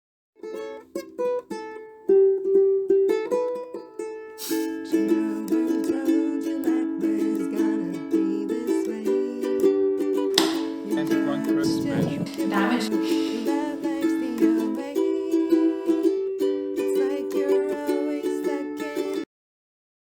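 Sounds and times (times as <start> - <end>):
plucked-string tune: 0.4 - 19.2.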